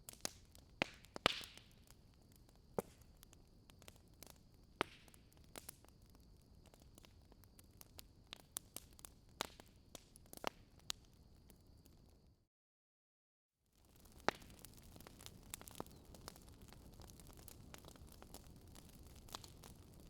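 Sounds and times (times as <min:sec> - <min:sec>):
wood fire crackling: 0:00.0 - 0:12.2, 0:13.8 - 0:20.0.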